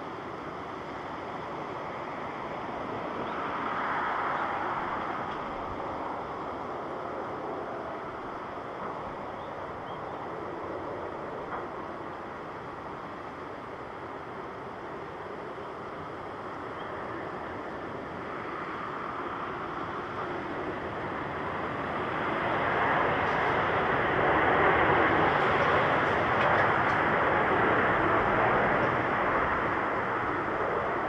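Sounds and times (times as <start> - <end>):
jet airliner engine rush: 0.0 - 31.0.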